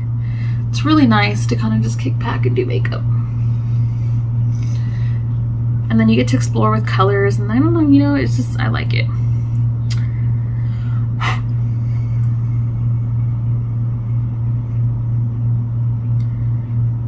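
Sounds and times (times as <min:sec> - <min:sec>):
low hum with rumble: 0:00.0 - 0:17.0.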